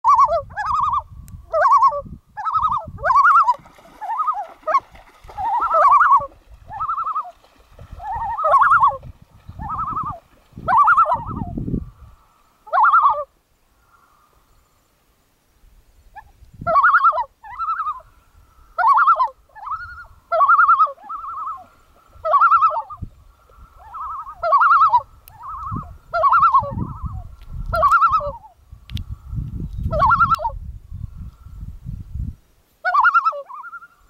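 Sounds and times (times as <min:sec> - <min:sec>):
loon calling: 0:00.0 - 0:07.4, 0:08.0 - 0:14.4, 0:16.2 - 0:28.6, 0:29.9 - 0:30.6, 0:32.8 - 0:34.0.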